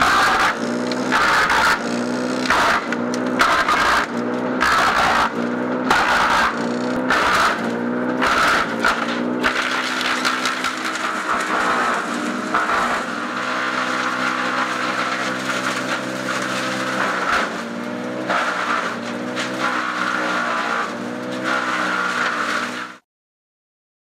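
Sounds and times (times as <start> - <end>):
shredder engine drone: 0.0 - 23.0
wood chips crunching and blowing: 0.0 - 23.0.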